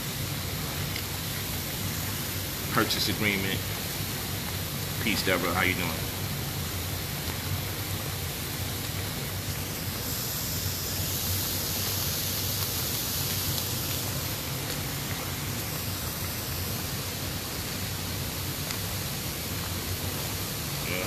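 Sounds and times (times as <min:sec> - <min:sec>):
hot tub jets churning water: 0:00.0 - 0:21.0
low pump hum: 0:00.0 - 0:21.0.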